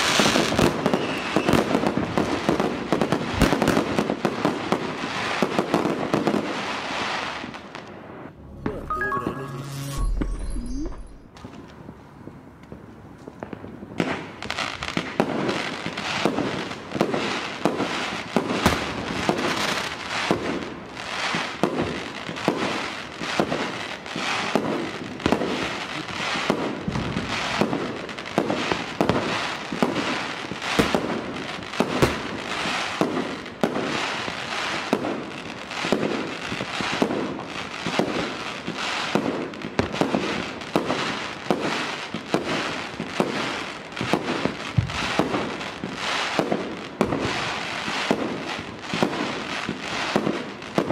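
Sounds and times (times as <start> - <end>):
fireworks and firecrackers bangs: 0.0 - 8.8, 11.3 - 50.9.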